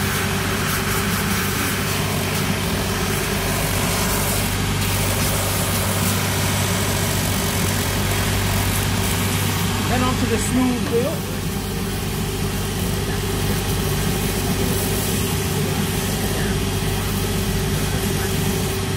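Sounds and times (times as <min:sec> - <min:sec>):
finishing machine humming: 0:00.0 - 0:18.9.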